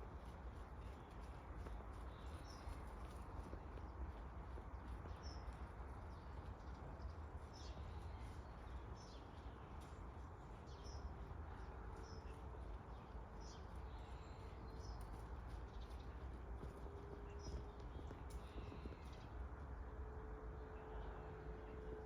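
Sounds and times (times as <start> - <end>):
small birds chirping: 0.2 - 19.4.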